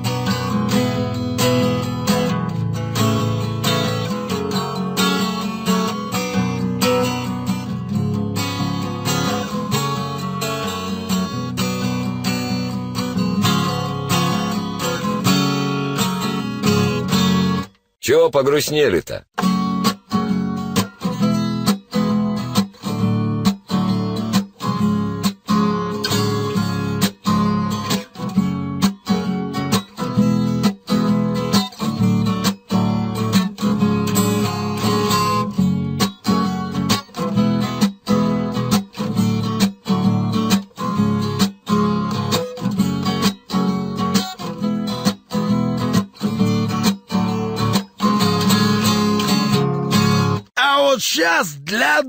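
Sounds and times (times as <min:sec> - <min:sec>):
acoustic guitar strumming: 0:00.0 - 0:17.8, 0:19.4 - 0:52.0.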